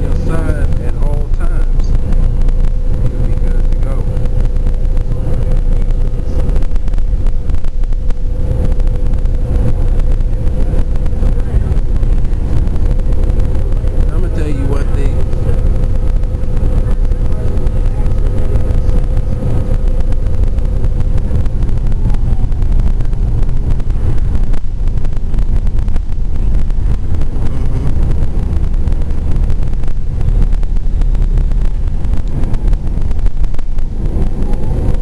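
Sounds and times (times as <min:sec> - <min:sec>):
bus engine and road rumble: 0:00.0 - 0:35.0
steady whine: 0:00.0 - 0:35.0.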